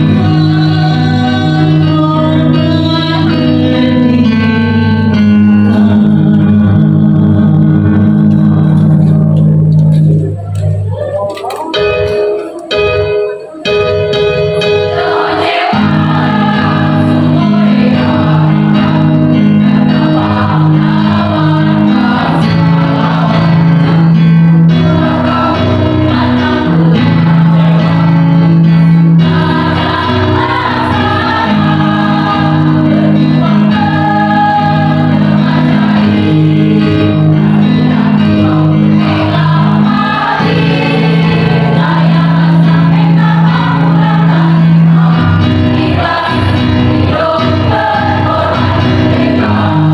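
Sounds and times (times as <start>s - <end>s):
mixed choir singing in parts: 0.0s - 4.4s, 14.2s - 49.9s
electronic keyboard sustained low notes: 0.0s - 49.9s.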